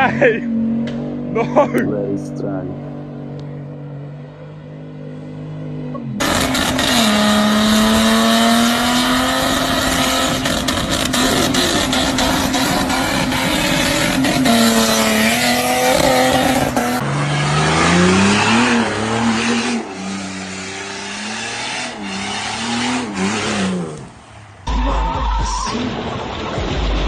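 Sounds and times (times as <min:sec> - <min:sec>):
off-road engines revving: 0:00.0 - 0:24.7
tyre and terrain noise: 0:00.0 - 0:27.0.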